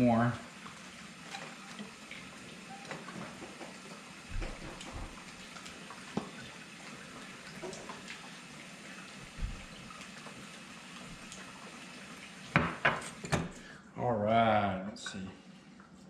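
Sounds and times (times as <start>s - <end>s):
water trickling and dripping: 0.0s - 13.7s.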